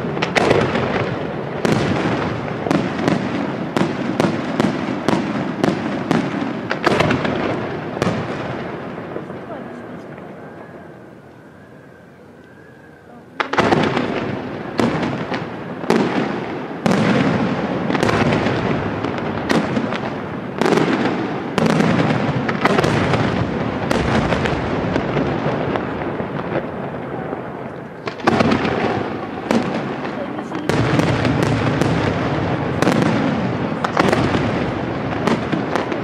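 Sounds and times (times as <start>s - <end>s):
crackling firework sparks: 0.0s - 12.7s, 13.3s - 36.0s.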